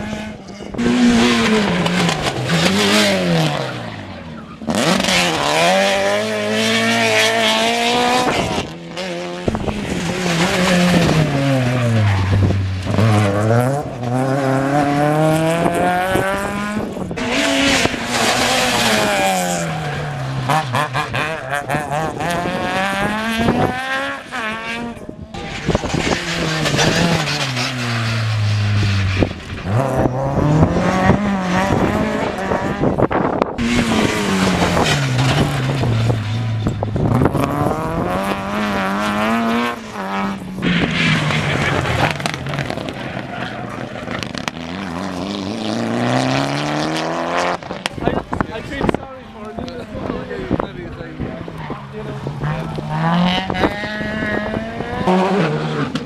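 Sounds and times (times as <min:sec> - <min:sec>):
rally car engines accelerating: 0:00.0 - 0:56.0.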